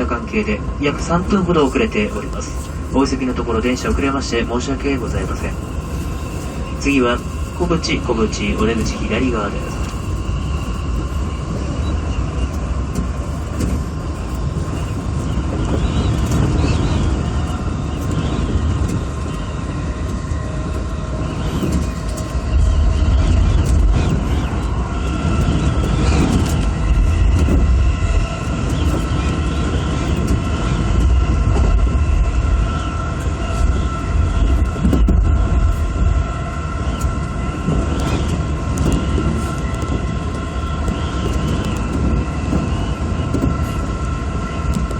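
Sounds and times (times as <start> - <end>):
faint steady whine: 0.0 - 44.9
train wheels rumbling on rails: 0.0 - 44.9.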